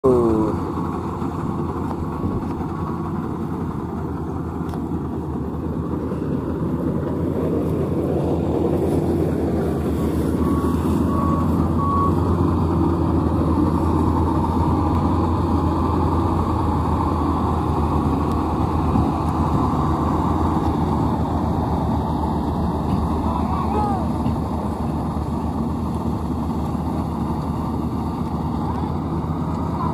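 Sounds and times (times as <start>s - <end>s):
combine harvester engine drone: 0.0s - 29.9s.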